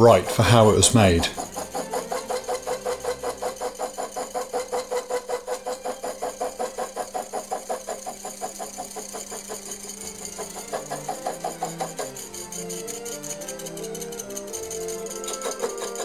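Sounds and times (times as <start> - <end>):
saw cutting steel with rhythmic chatter: 0.0 - 16.0.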